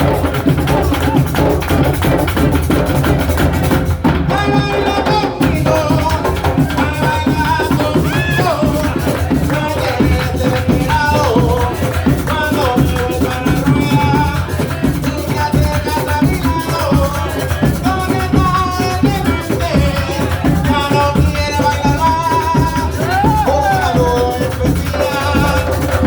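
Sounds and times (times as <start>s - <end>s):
drums: 0.0s - 26.0s
maracas: 0.0s - 26.0s
voices singing: 0.0s - 26.0s.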